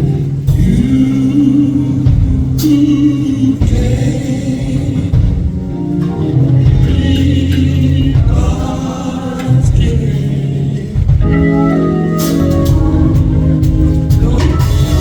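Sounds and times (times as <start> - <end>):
gospel organ music: 0.0 - 15.0.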